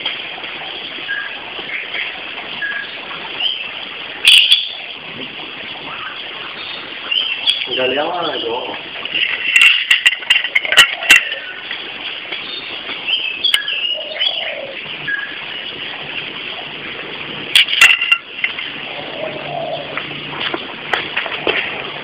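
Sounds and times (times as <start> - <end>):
birds chirping: 0.0 - 21.1
steady outdoor hiss: 0.0 - 22.0.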